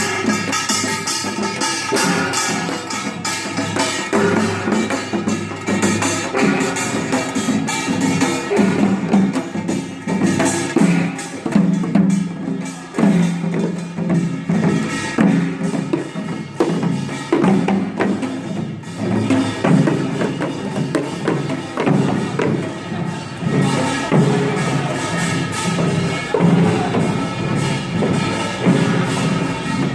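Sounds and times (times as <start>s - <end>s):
wooden percussion strokes: 0.0s - 29.9s.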